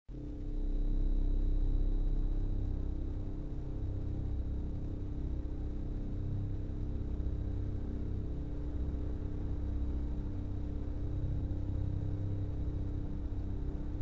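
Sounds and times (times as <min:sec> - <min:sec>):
constant hum: 0:00.1 - 0:14.0.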